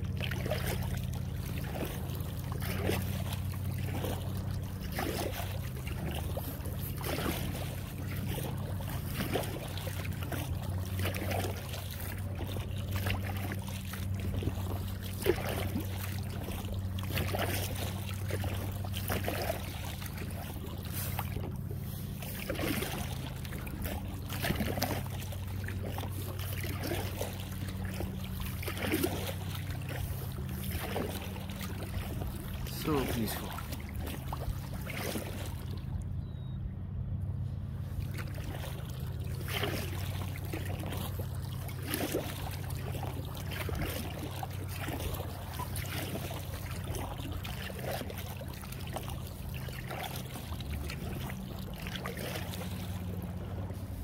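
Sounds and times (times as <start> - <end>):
water trickling off paddle: 0.0 - 36.6, 37.6 - 54.0
kayak paddle dipping: 0.0 - 54.0
steady low hum: 0.0 - 54.0.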